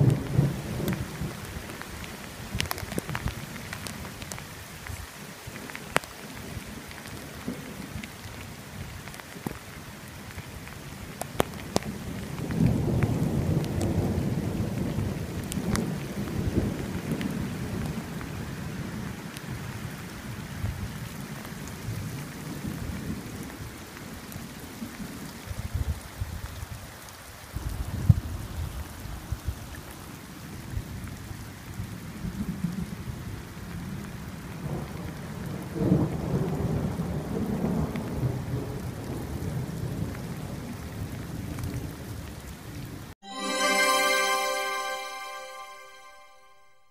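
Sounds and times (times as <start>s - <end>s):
rain falling in forest: 0.0s - 46.5s.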